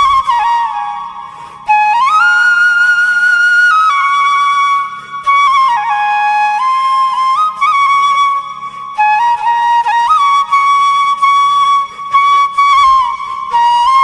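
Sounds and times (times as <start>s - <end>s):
flute melody ringtone: 0.0s - 14.0s.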